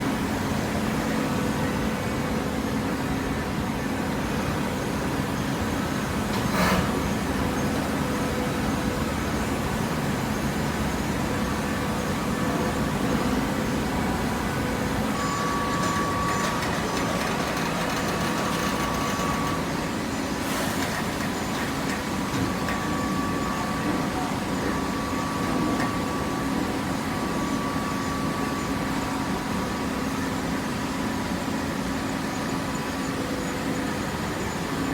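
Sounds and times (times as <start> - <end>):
baler machine drone: 0.1 - 34.9.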